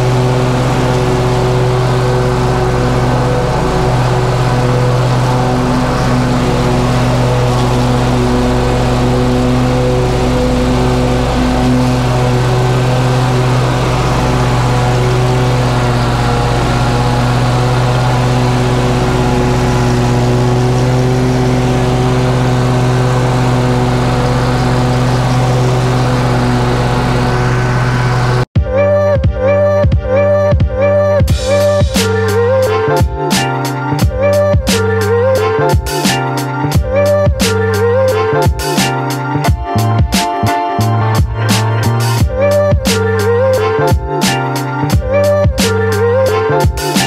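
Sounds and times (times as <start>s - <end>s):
mower engine running: 0.0s - 28.5s, 31.3s - 47.0s
music: 0.0s - 47.0s.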